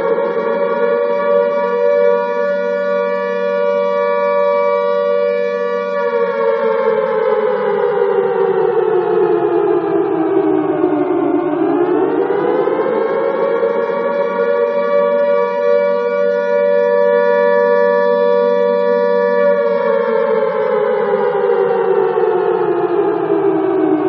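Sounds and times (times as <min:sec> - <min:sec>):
alarm siren wailing: 0:00.0 - 0:24.0.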